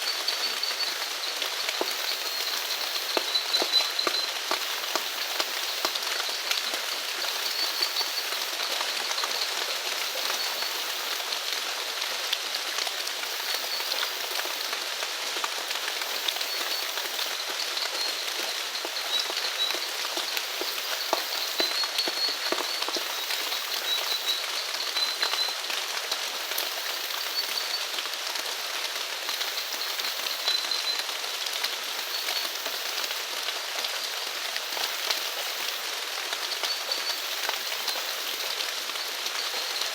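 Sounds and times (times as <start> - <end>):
rain falling: 0.0 - 39.9
raindrops ticking: 0.0 - 39.9.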